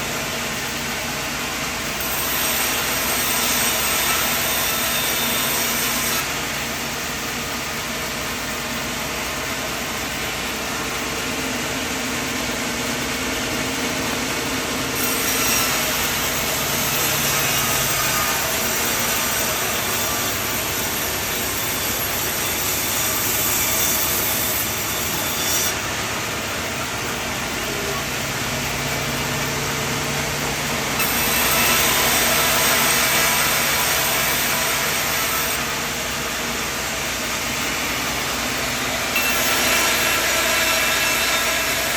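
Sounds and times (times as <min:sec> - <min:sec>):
sawmill cutting wood: 0:00.0 - 0:41.9.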